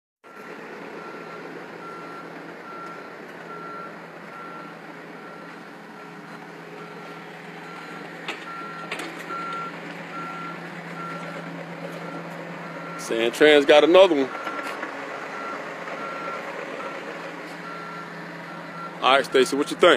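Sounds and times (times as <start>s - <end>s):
reversing alarm beeping: 0.3s - 13.2s, 14.2s - 19.9s
low engine hum: 0.3s - 19.9s.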